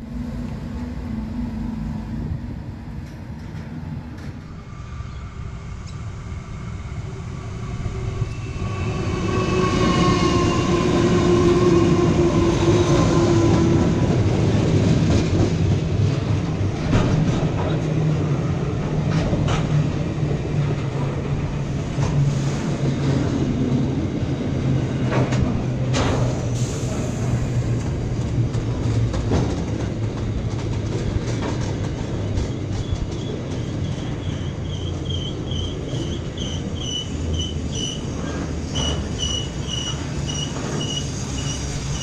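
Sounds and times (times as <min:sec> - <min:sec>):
locomotive engine drone: 0:00.0 - 0:42.0.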